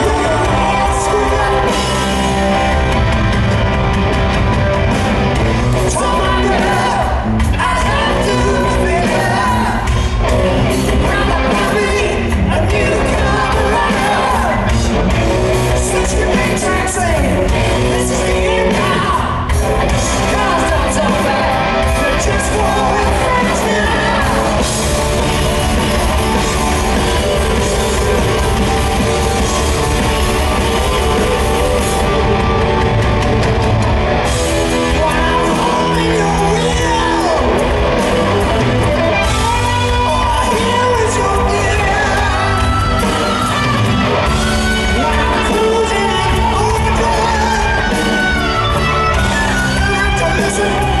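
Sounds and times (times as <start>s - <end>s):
crowd yelling: 0.0s - 51.0s
live rock band playing: 0.0s - 51.0s.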